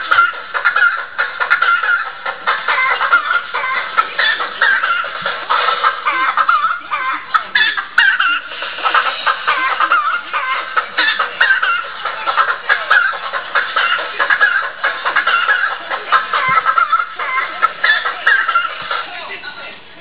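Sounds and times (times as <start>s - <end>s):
high-pitched clucking and chattering: 0.0s - 19.2s.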